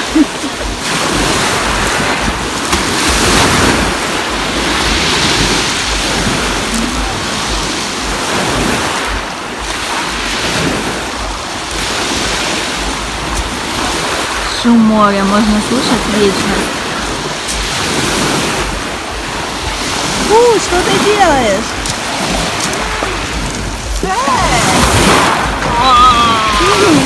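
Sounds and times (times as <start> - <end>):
waves washing onto beach: 0.0 - 27.0.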